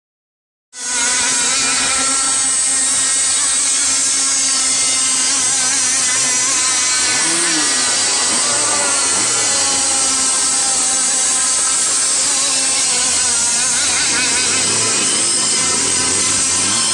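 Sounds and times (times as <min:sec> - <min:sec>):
rc boat motors whining: 0:00.8 - 0:16.9.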